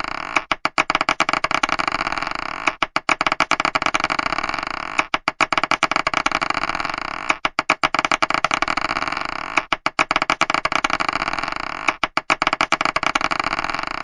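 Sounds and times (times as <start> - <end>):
marbles clacking and rattling: 0.0 - 14.0.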